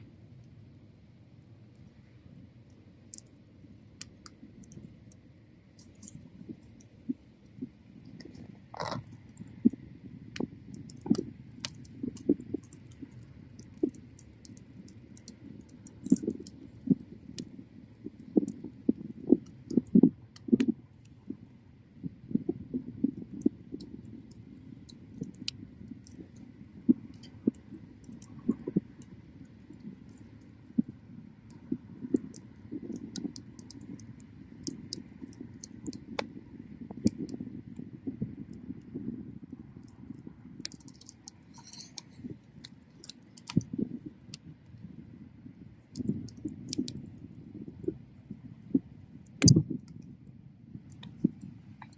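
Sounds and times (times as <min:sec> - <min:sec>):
low rush of flames: 0:00.0 - 0:51.9
bonfire crackling and popping: 0:01.6 - 0:51.9.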